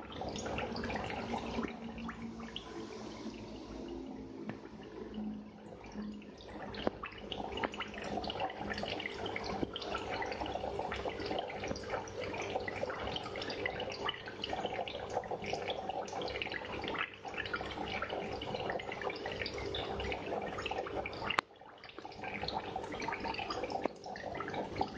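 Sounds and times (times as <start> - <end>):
aquarium water trickling: 0.0 - 24.9.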